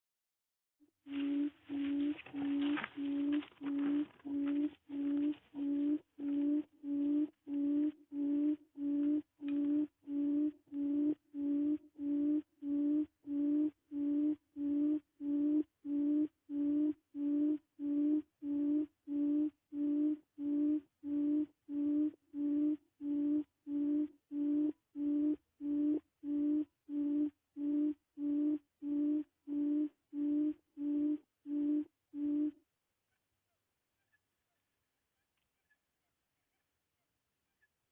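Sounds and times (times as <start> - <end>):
low hooting quail call: 1.1 - 32.6.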